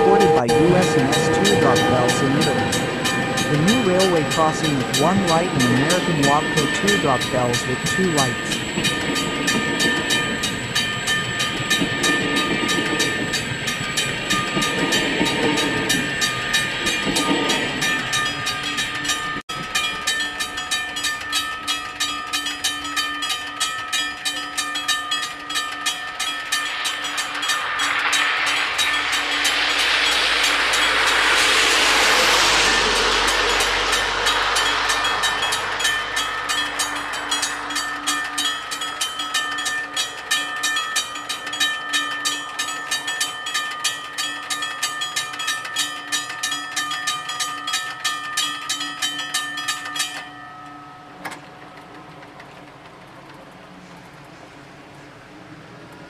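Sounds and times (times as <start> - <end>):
level crossing bells ringing: 0.0 - 51.4
train passing: 0.0 - 56.0.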